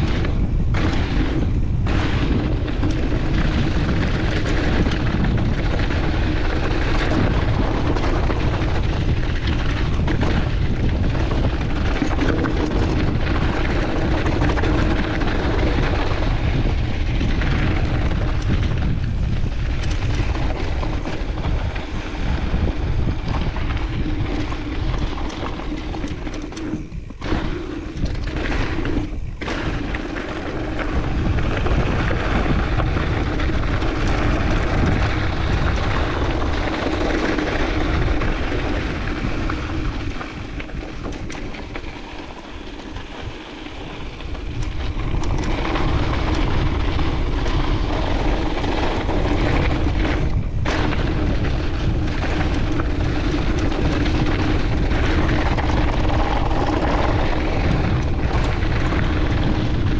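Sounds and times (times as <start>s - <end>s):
bike rattling: 0.0s - 59.9s
bike tyres rolling on dirt: 0.0s - 59.9s
wind rushing over microphone: 0.0s - 59.9s.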